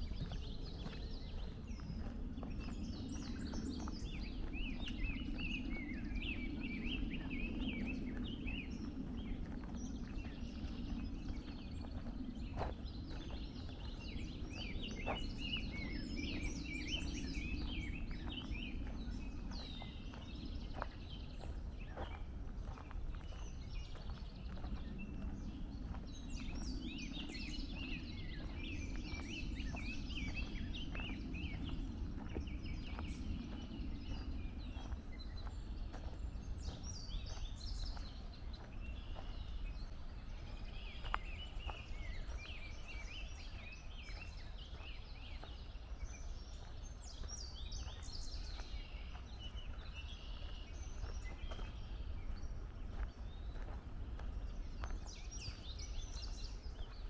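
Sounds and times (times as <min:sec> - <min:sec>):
footsteps on a trail: 0:00.0 - 0:57.0
songbirds chirping and trilling: 0:00.0 - 0:57.0.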